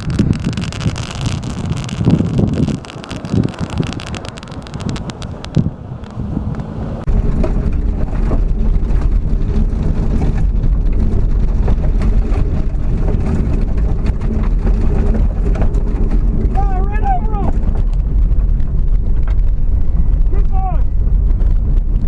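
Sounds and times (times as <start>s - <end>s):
vehicle engine running: 0.0s - 22.0s
wind and rumble: 0.0s - 22.0s.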